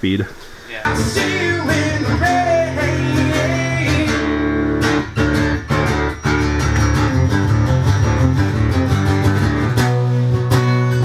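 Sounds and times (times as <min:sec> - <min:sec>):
guitar chords strummed: 0:00.9 - 0:11.0.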